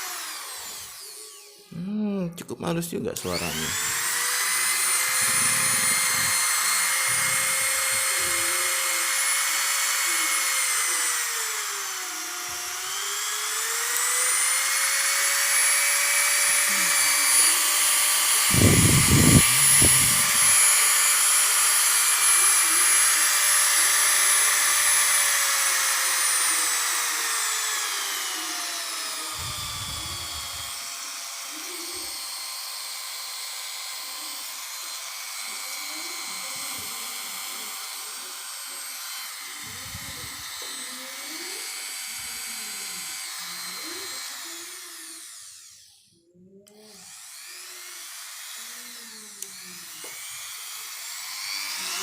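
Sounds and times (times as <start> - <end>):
rotary tool motor whine: 0.0 - 1.8, 3.2 - 52.0.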